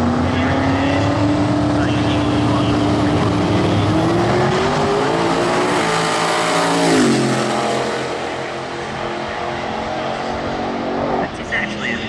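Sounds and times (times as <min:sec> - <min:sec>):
drag car accelerating hard: 0:00.0 - 0:12.0.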